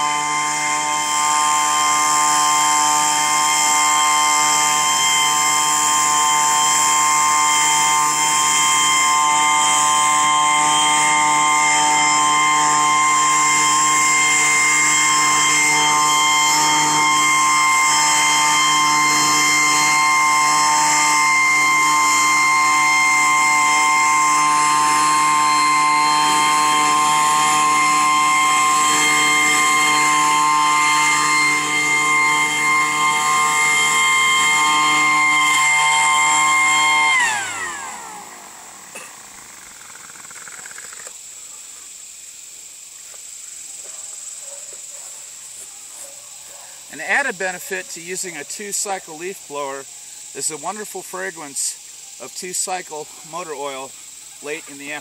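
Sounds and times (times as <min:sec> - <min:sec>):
leaf blower high-pitched whine: 0:00.0 - 0:55.0.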